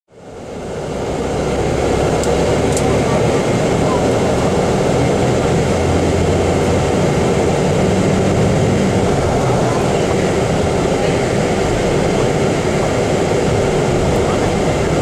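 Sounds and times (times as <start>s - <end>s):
vehicle engine and road noise: 0.1s - 15.0s.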